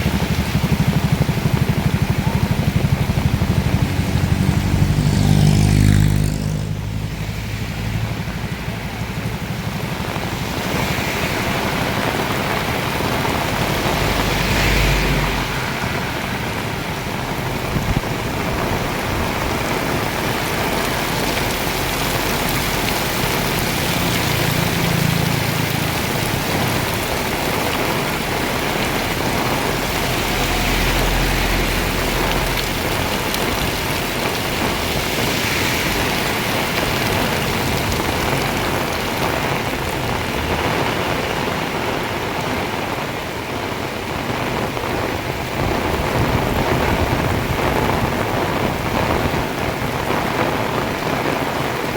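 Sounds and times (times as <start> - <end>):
heavy rain pouring: 0.0 - 51.9
vehicles passing: 0.0 - 51.9.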